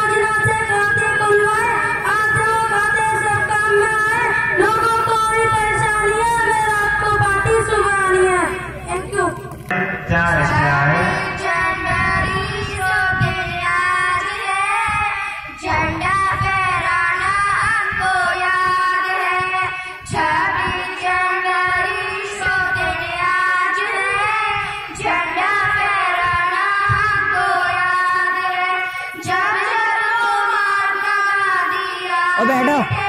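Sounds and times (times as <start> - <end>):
girls singing into microphones: 0.0 - 9.3, 10.5 - 33.0.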